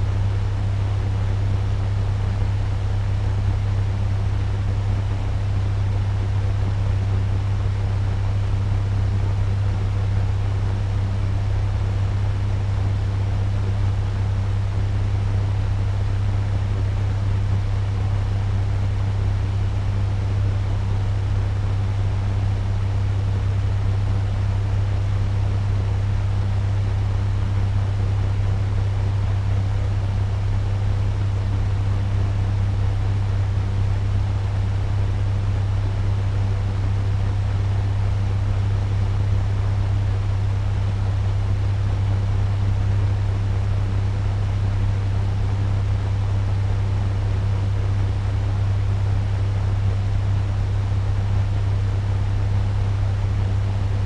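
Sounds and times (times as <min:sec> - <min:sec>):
fan running: 0:00.0 - 0:54.0.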